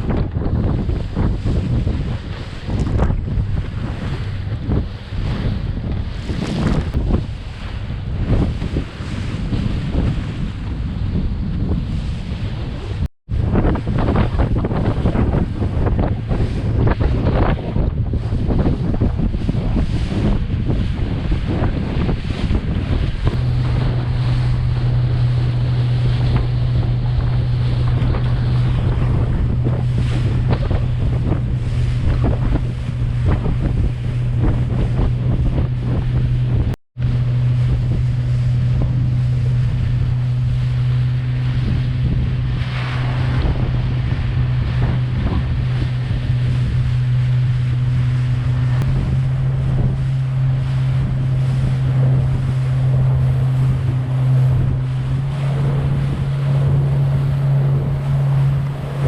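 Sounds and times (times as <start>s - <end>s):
boat engine droning: 0.0s - 59.0s
water rushing past hull: 0.0s - 59.0s
wind buffeting microphone: 0.0s - 59.0s.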